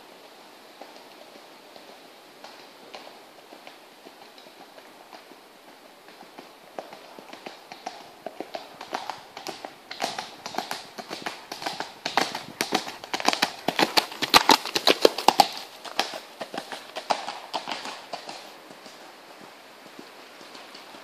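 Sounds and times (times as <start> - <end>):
horse hoofbeats on dirt: 0.7 - 21.0.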